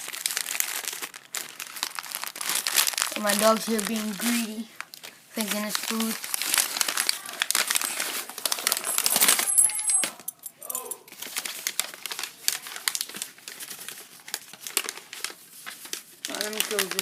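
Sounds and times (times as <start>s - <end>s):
plastic packaging crinkling: 0.0s - 10.2s, 11.1s - 17.0s.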